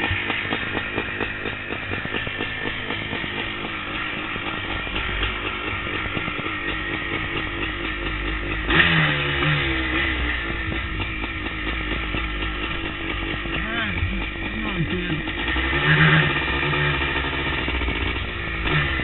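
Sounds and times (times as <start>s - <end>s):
motorcycle engine running: 0.0s - 19.0s
sharp engine rev: 0.0s - 19.0s.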